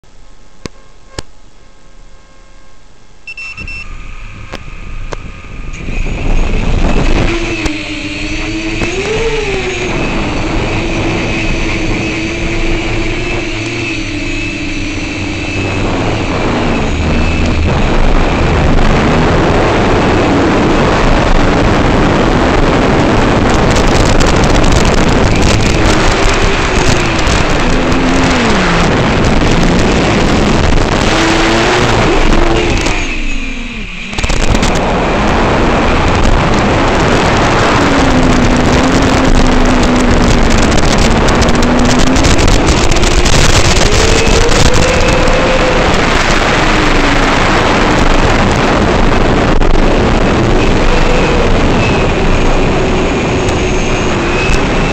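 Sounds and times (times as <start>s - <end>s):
drone motors whining: 3.3s - 54.9s
wind rush: 3.7s - 54.9s.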